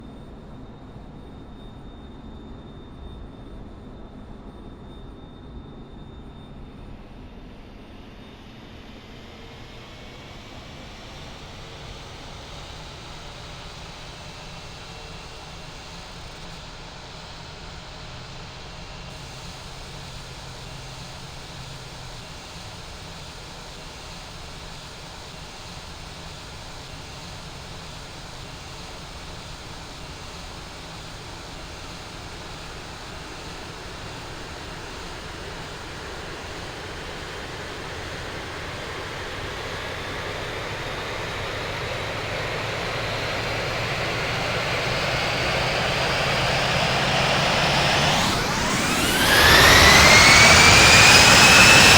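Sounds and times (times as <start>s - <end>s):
jet engine spooling up: 0.0s - 51.9s.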